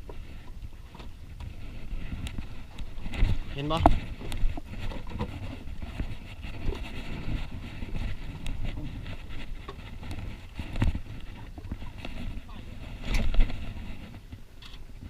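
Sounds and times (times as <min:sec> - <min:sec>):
boat engine rumble: 0:00.0 - 0:15.0
water noise: 0:00.0 - 0:15.0
wind: 0:00.0 - 0:15.0.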